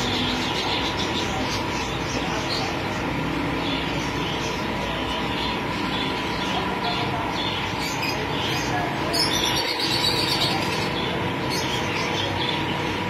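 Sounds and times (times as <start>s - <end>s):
birds chirping and calling: 0.0s - 13.0s
steady background noise: 0.0s - 13.0s.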